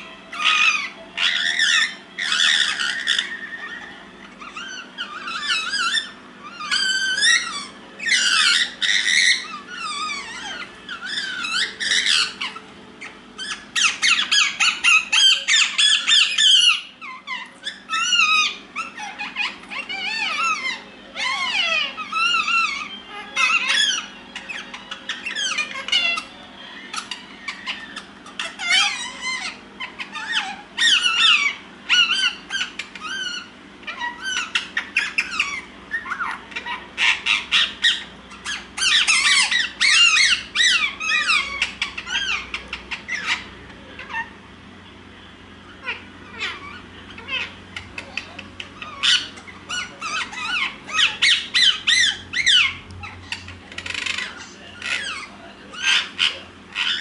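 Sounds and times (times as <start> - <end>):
parakeets chattering: 0.0 - 57.0.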